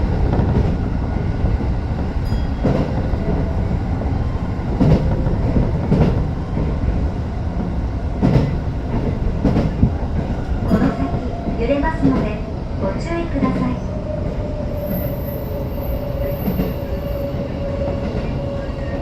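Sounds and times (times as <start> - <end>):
train wheels rumbling on rail: 0.0 - 19.0
rail joint clacks: 0.1 - 19.0.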